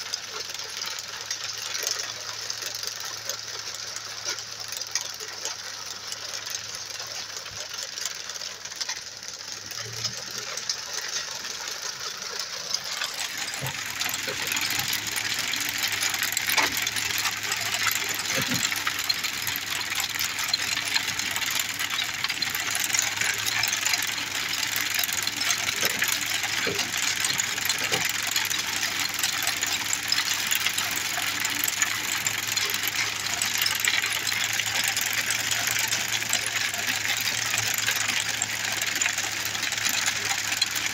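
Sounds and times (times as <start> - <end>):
engine humming: 0.0 - 40.9.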